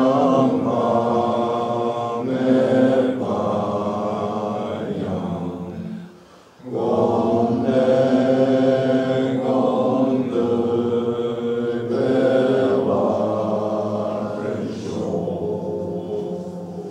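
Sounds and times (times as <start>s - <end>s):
man chanting in low voice: 0.0s - 16.9s.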